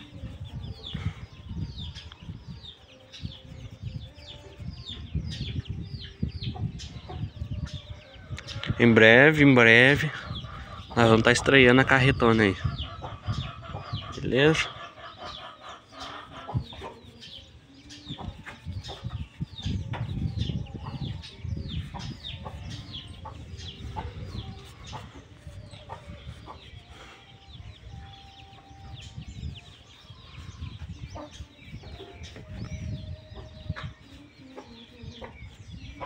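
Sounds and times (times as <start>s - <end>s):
chickens chirping: 0.0s - 36.0s.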